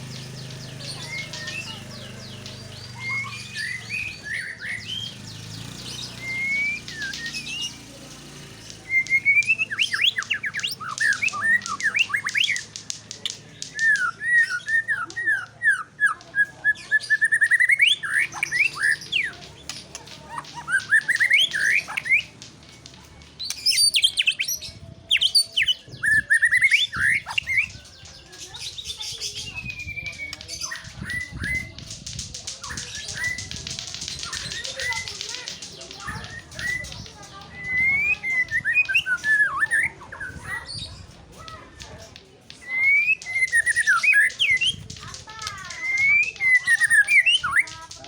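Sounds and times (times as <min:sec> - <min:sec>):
bird singing whistles and trills: 0:00.0 - 0:47.8.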